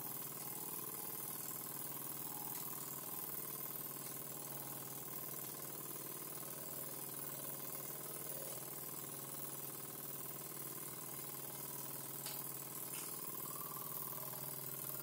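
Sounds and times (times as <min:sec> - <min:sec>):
toy steam engine running: 0:00.0 - 0:15.0.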